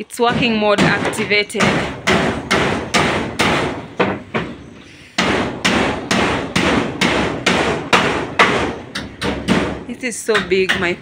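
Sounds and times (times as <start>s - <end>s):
hammer blows: 0.3s - 9.8s.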